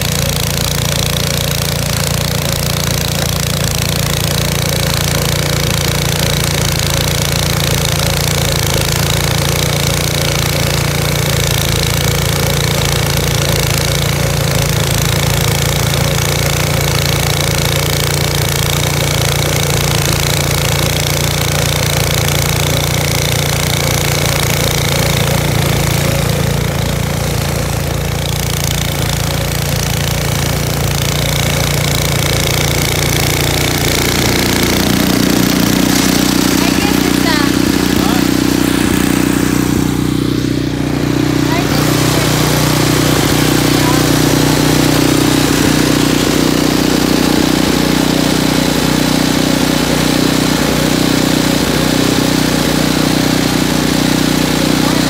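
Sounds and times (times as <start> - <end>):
snow blower engine running: 0.0 - 55.0.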